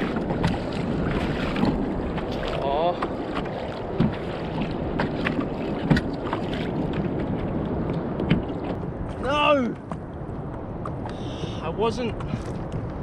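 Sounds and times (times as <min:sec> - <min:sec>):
water around kayak hull: 0:00.0 - 0:13.0
wind on microphone: 0:00.0 - 0:13.0.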